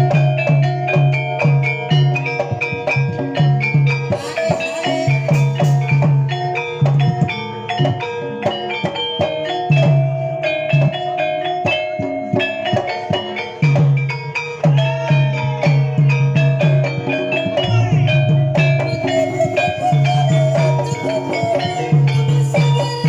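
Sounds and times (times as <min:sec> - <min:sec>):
gongs and metallophones ringing: 0:00.0 - 0:23.0
hand drums: 0:00.0 - 0:23.0.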